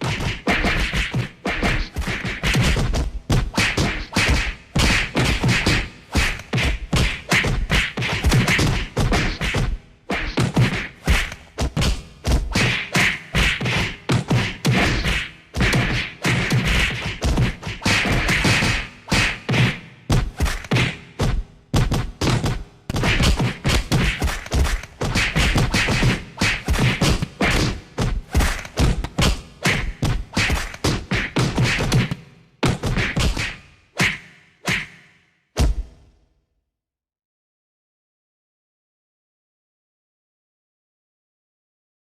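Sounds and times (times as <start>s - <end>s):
rapid percussive thumps and clicks: 0.0s - 36.1s.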